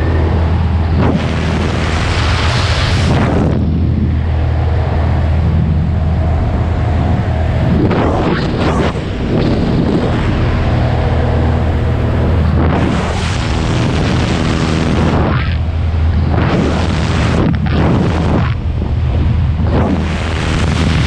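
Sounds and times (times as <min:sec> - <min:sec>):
propeller plane engine drone: 0:00.0 - 0:21.0
wind buffeting microphone: 0:00.0 - 0:21.0.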